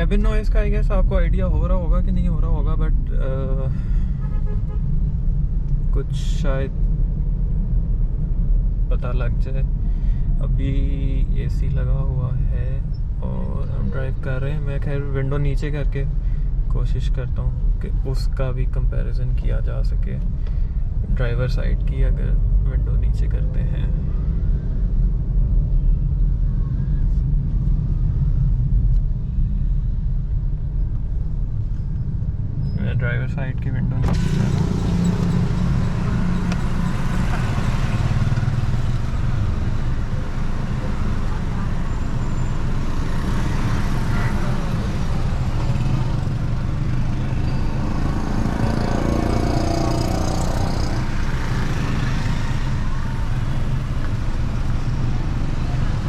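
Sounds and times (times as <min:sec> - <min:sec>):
car cabin road and engine rumble: 0:00.0 - 0:56.0
surrounding traffic: 0:00.0 - 0:56.0.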